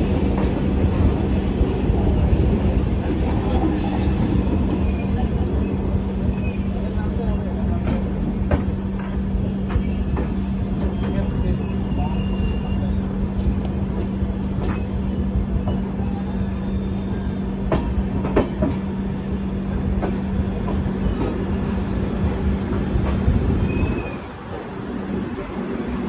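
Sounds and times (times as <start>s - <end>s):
train coach rolling on rails: 0.0s - 26.0s.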